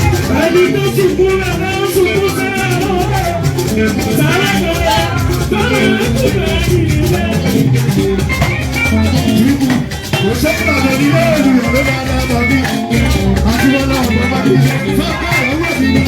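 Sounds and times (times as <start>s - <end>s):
shakers rattling: 0.0s - 16.0s
steady bass: 0.0s - 16.0s
upbeat church music: 0.0s - 16.0s
voices singing: 0.0s - 16.0s.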